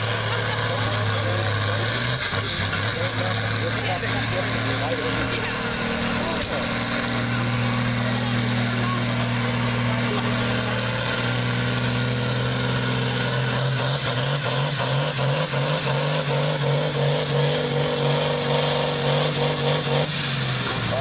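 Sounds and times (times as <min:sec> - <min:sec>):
tractor diesel engine running hard: 0:00.0 - 0:21.0.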